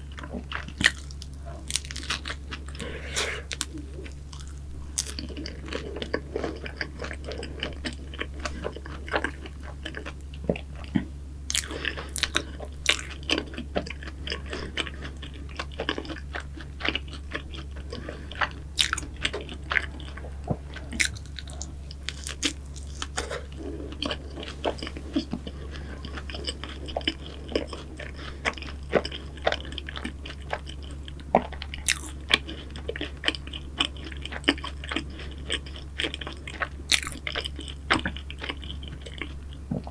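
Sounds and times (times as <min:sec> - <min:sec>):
crunchy chewing of pastries: 0:00.0 - 0:39.9
steady low hum: 0:00.0 - 0:39.9.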